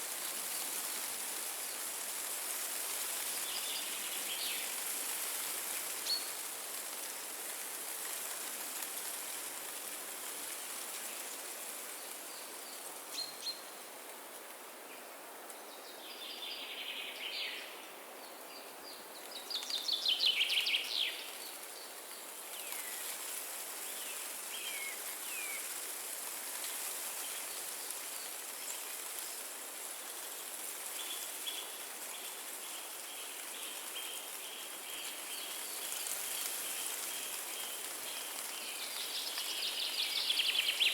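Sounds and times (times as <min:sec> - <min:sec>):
wind through trees: 0:00.0 - 0:40.9.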